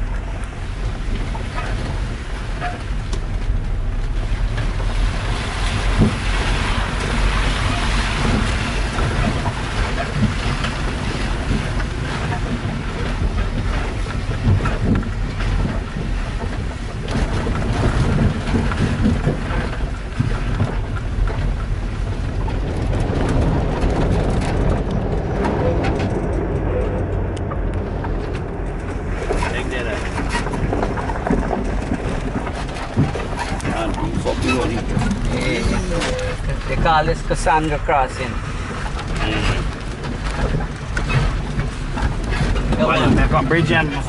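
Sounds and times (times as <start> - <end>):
knocks and rattles from bumps: 0.0 - 44.0
tyres on rough dirt road: 0.0 - 44.0
vehicle engine rumbling: 0.0 - 44.0.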